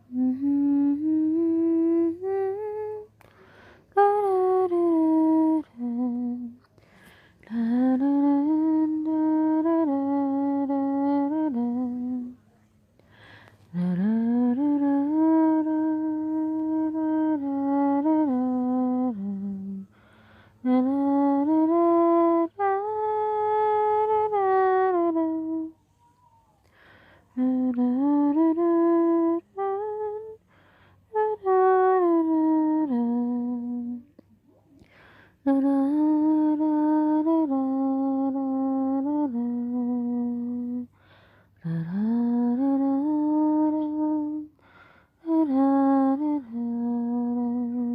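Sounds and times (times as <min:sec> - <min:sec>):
person humming a lullaby: 0:00.0 - 0:47.9.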